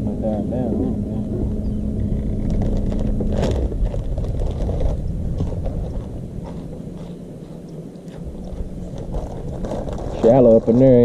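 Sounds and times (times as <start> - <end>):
boat motor humming: 0.0 - 11.0
low rumble: 0.0 - 11.0.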